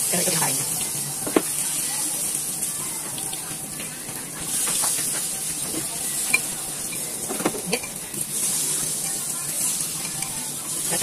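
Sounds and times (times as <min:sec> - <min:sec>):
eggplant sizzling in hot oil: 0:00.0 - 0:11.0.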